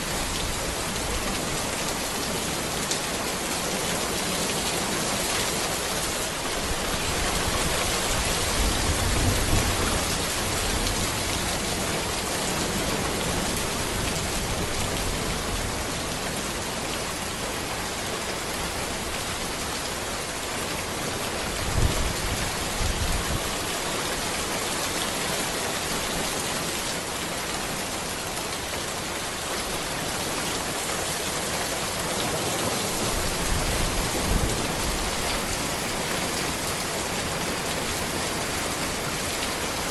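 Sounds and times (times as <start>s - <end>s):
rain falling on a road: 0.0s - 39.9s.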